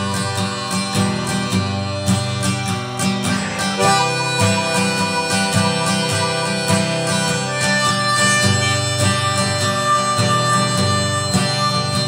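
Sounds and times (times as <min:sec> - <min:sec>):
harmonica long held notes: 0:00.0 - 0:12.0
picked and strummed guitar: 0:00.0 - 0:12.0.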